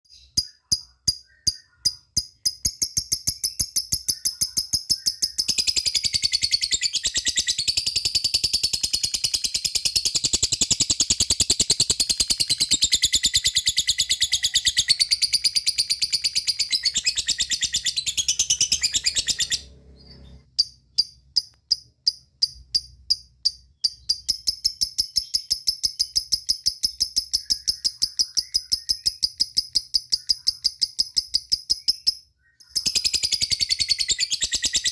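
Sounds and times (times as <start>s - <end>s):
high ticking bird chirps: 0.1s - 34.9s.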